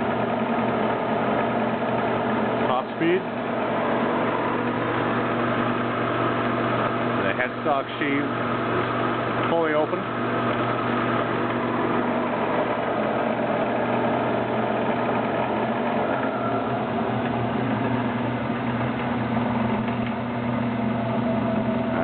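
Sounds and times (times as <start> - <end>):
wood lathe motor hum: 0.0 - 22.0.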